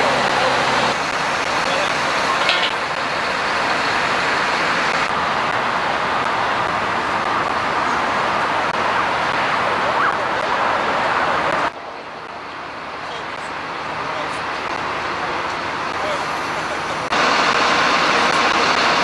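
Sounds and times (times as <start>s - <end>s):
crane diesel engine running: 0.0s - 19.0s.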